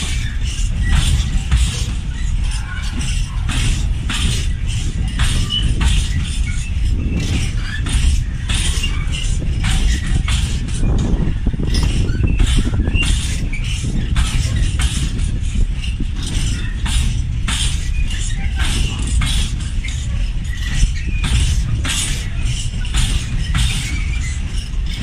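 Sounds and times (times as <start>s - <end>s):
train rumbling past: 0.0s - 25.0s
wheels clattering over rail joints: 0.0s - 25.0s.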